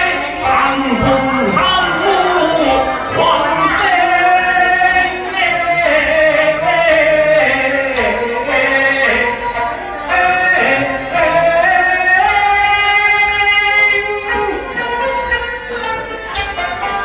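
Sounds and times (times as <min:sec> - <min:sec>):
opera singing voice: 0:00.0 - 0:14.8
bowed strings: 0:00.0 - 0:17.0.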